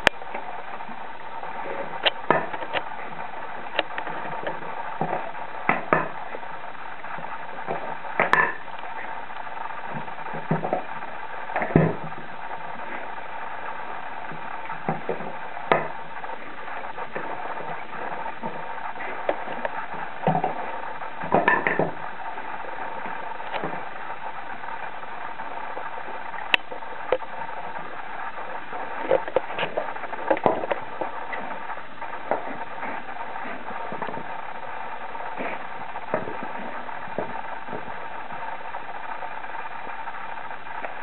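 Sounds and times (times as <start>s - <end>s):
background hiss: 0.0s - 41.0s.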